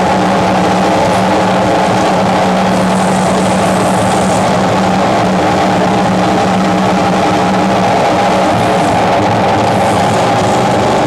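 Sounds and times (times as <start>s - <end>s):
harsh noise music drone: 0.0s - 11.0s.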